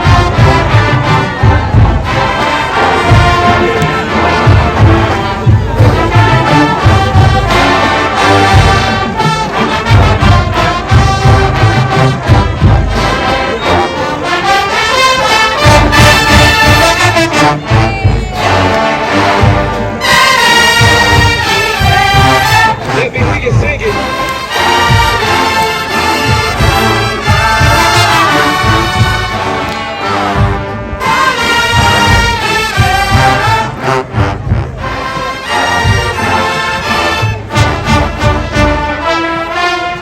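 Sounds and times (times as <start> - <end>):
bass drum beat: 0.0 - 14.1, 14.8 - 39.1
brass section playing: 0.0 - 40.0.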